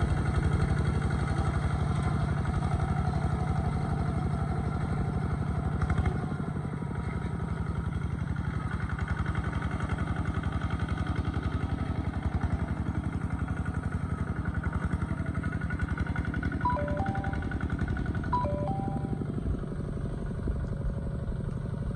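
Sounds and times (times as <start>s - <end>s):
tractor engine chugging: 0.0s - 21.9s.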